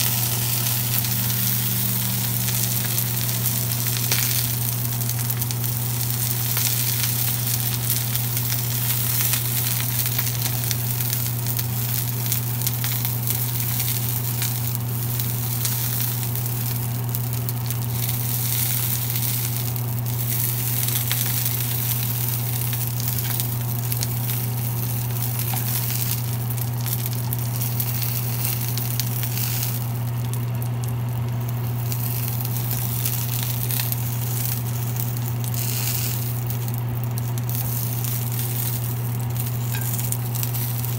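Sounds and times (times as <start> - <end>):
steady low hum: 0.0 - 40.9
vegetables sizzling in oil: 0.0 - 40.9.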